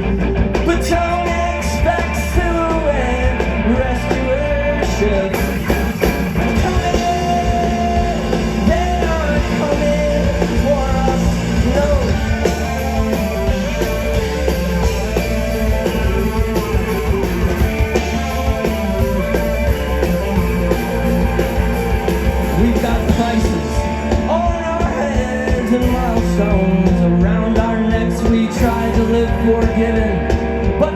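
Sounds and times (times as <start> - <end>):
live rock band playing: 0.0 - 30.9.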